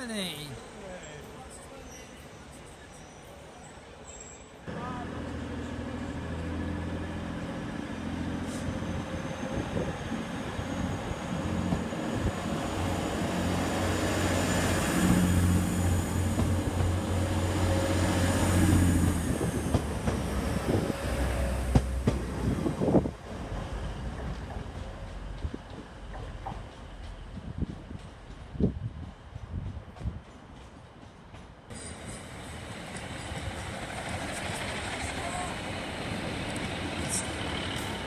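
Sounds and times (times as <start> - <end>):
train engine hum: 0.0 - 38.0.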